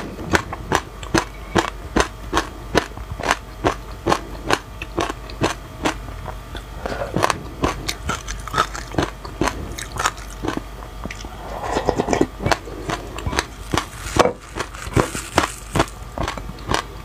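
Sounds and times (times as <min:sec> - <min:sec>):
seeds crunching while chewing: 0:00.0 - 0:17.0.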